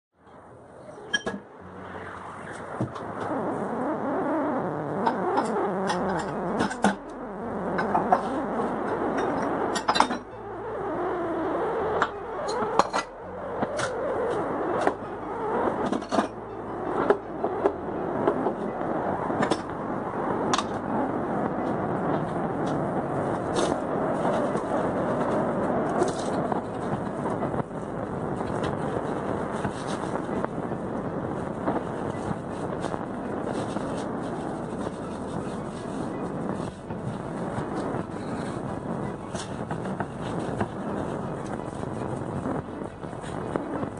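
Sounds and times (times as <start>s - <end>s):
rushing background noise: 0.2s - 43.9s.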